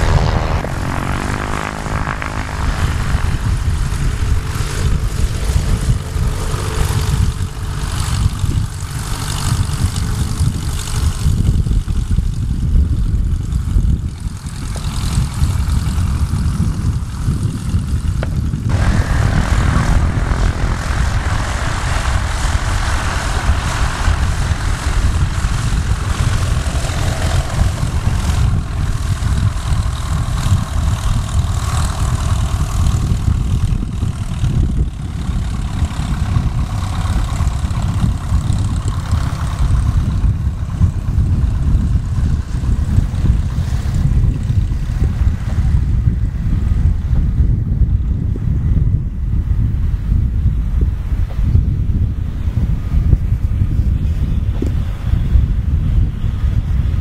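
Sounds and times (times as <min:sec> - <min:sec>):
propeller aircraft engine drone: 0:00.0 - 0:57.0.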